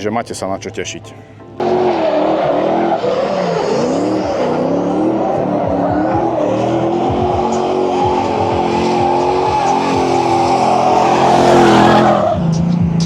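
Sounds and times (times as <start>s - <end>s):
car engine revving high: 1.6s - 13.0s
tyre squeal: 1.8s - 12.7s.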